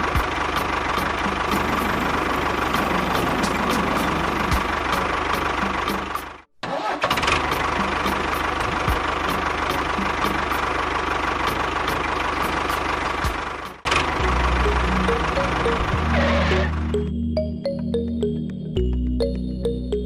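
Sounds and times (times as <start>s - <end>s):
engine running with ticking: 0.0s - 17.1s.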